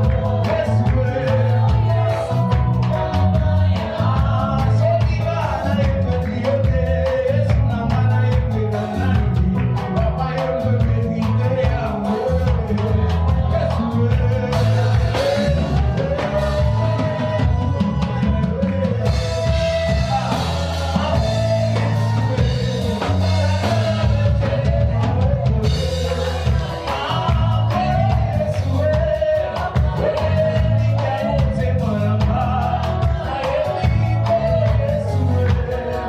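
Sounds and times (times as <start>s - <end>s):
bass guitar: 0.0s - 36.0s
drum kit beat: 0.0s - 36.0s
person singing: 0.0s - 36.0s.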